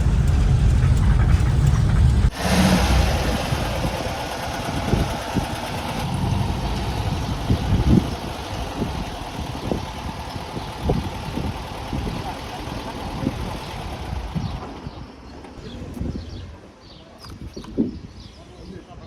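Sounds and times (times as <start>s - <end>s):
van engine running: 0.0s - 15.6s.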